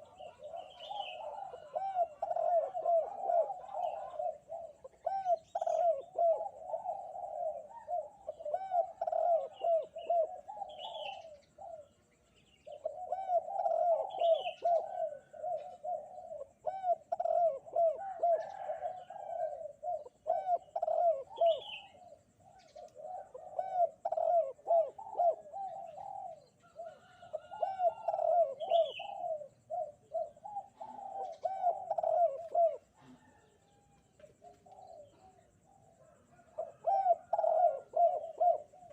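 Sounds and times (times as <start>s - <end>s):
dove cooing: 0.0s - 38.9s
small birds chirping: 0.0s - 38.9s.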